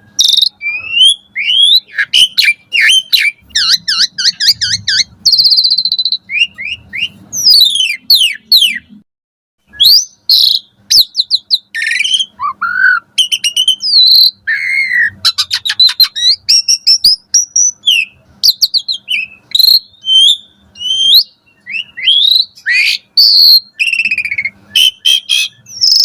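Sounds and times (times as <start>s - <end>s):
starling singing whistles: 0.0s - 9.0s, 9.6s - 26.0s.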